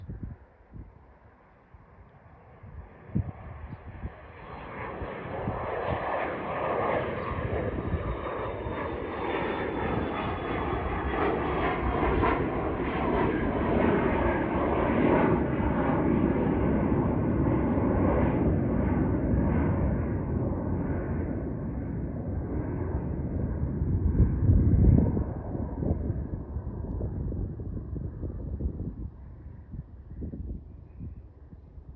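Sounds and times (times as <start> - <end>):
jet taking off: 2.5 - 29.8.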